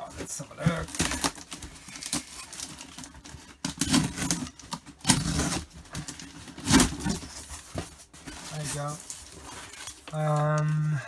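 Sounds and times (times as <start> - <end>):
box packing rustling: 0.0 - 11.0.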